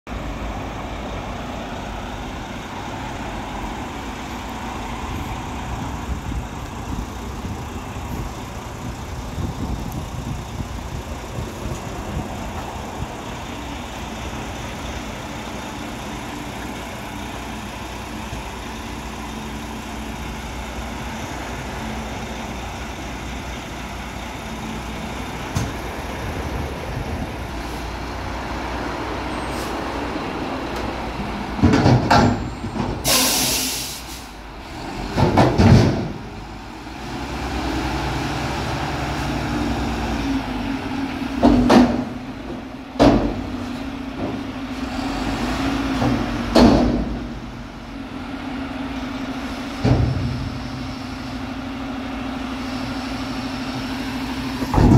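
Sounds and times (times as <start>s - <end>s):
diesel truck engine running: 0.1s - 54.9s.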